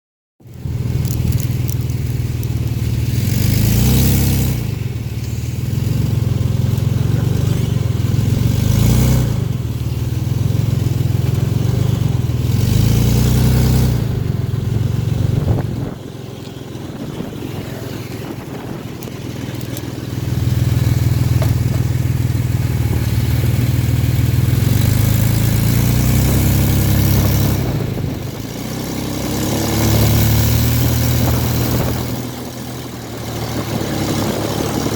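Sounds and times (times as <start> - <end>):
car engine accelerating: 0.4 - 34.9.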